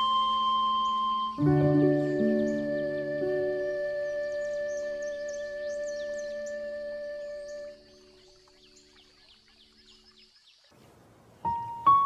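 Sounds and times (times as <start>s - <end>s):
soft instrumental music: 0.0s - 10.0s, 11.4s - 12.0s.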